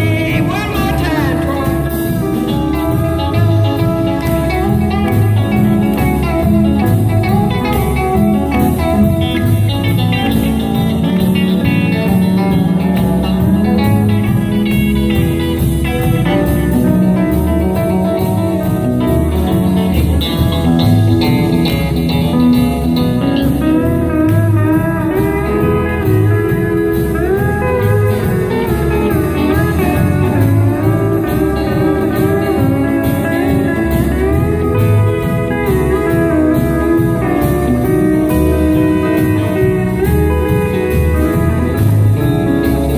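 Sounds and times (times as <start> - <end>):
drums keeping a steady beat: 0.0 - 42.9
electric guitar: 0.0 - 42.9
pedal steel guitar: 0.0 - 42.9.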